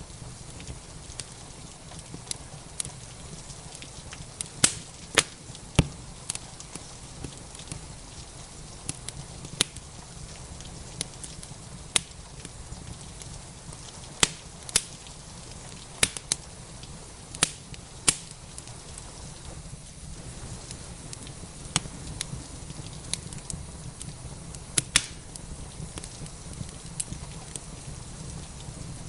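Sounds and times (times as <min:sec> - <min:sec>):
rain hissing: 0:00.0 - 0:29.0
wood fire crackling and popping: 0:00.0 - 0:29.0.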